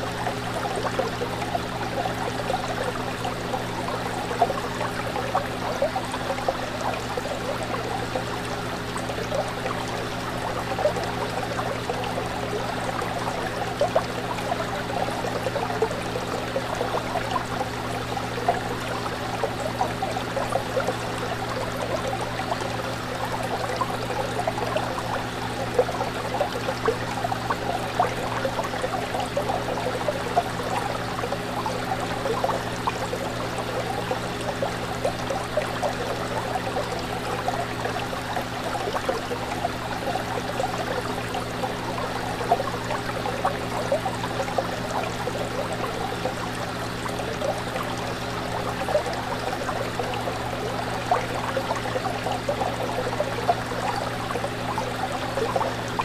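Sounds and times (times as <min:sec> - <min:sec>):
fish tank water bubbling: 0:00.0 - 0:56.0.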